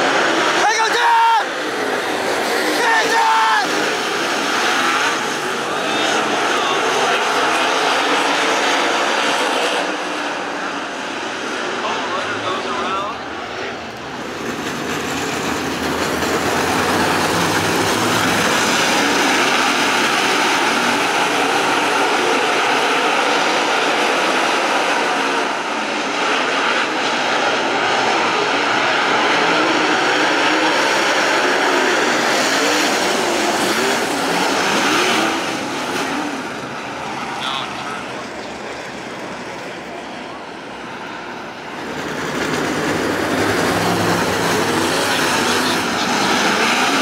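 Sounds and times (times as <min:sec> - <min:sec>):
race car engines droning: 0:00.0 - 0:47.0.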